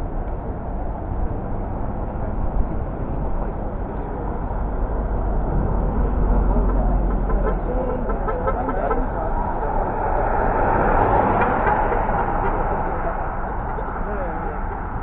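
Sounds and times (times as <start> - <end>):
cars and trucks driving past: 0.0 - 15.0.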